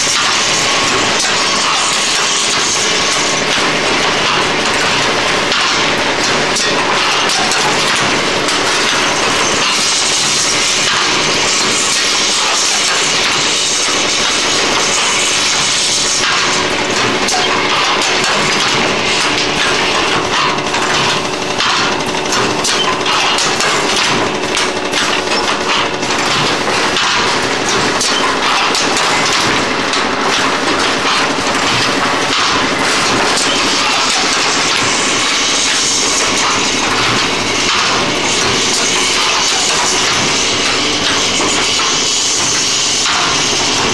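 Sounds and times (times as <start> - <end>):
machine knocking and clattering: 0.0 - 43.9
steady machine hum: 0.0 - 43.9.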